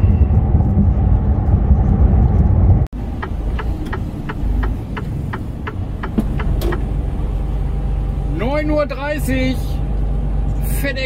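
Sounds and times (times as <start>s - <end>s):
quieter engine running: 0.0s - 11.0s
truck engine and road rumble: 0.0s - 11.0s.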